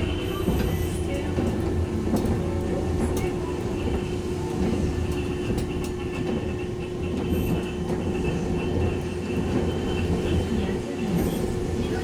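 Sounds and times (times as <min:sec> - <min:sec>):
tram wheels rumbling: 0:00.0 - 0:12.0.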